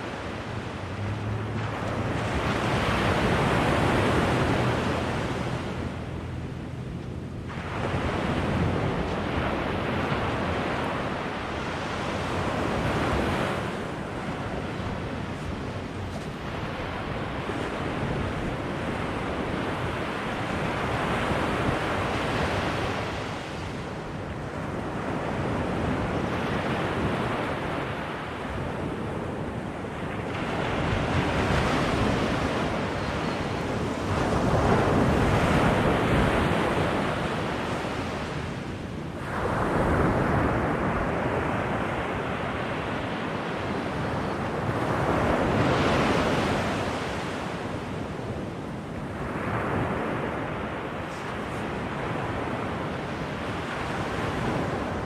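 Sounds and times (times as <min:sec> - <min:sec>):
ocean waves on beach: 0:00.0 - 0:55.0.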